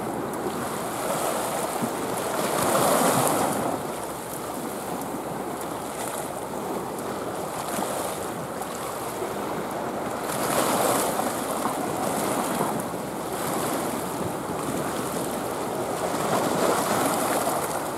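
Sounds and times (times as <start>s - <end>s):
waves washing against rocks: 0.4s - 17.9s.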